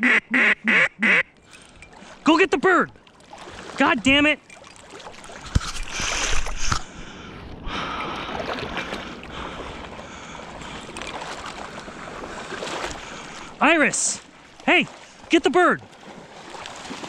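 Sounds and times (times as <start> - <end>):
water rushing and splashing: 1.3 - 17.0.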